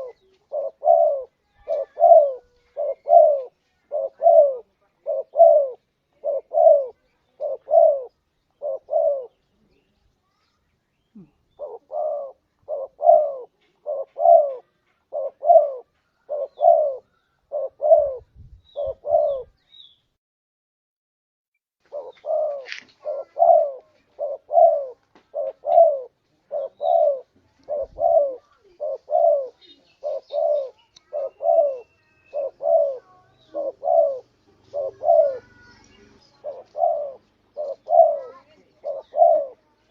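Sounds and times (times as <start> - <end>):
dove cooing: 0.0 - 9.5, 11.2 - 19.6, 21.8 - 39.9.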